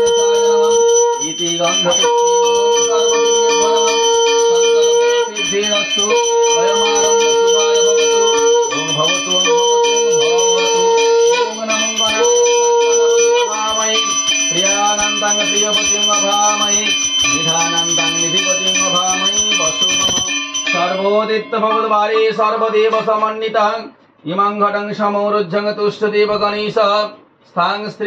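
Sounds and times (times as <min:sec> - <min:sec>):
hand bell ringing: 0:00.0 - 0:23.5
long held notes: 0:00.0 - 0:23.5
wavering pitched tones: 0:00.0 - 0:23.6.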